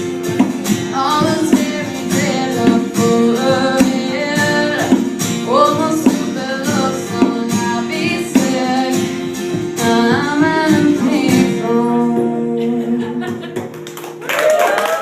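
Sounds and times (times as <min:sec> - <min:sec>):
guitar accompaniment: 0:00.0 - 0:15.0
person singing: 0:00.9 - 0:09.2, 0:09.8 - 0:13.6.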